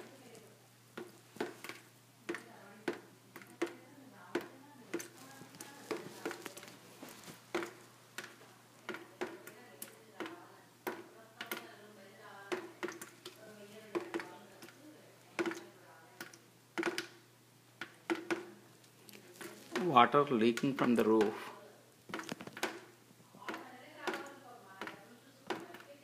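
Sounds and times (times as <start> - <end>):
water dripping into metal bin: 0.0 - 5.2, 7.5 - 11.7, 12.5 - 17.2, 17.8 - 18.6, 19.4 - 21.5, 22.1 - 26.0.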